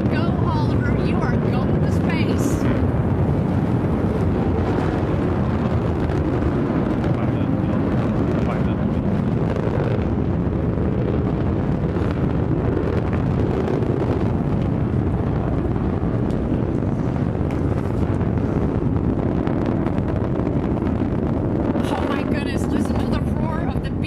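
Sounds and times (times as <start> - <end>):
rocket engine roaring: 0.0 - 24.0.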